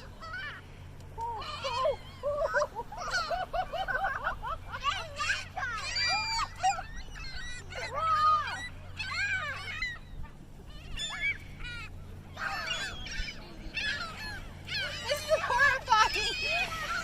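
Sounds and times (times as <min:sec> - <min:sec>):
seagulls squawking: 0:00.0 - 0:17.0.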